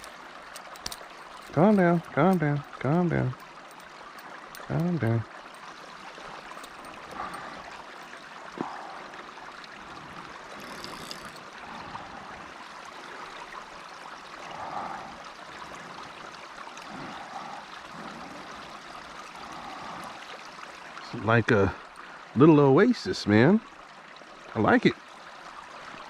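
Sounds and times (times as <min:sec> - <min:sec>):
creek water trickling: 0:00.0 - 0:26.0.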